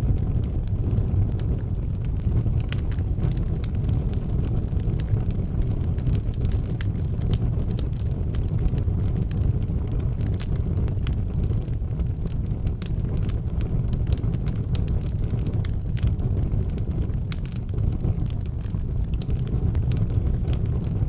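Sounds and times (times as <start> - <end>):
low rumble of fire: 0.0 - 21.0
wood fire crackling and popping: 0.0 - 21.0.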